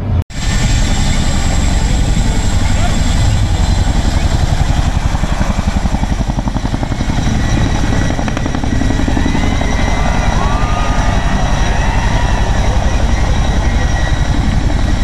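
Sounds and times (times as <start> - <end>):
helicopter engine noise: 0.0 - 15.0
helicopter rotor blade slap: 0.4 - 15.0.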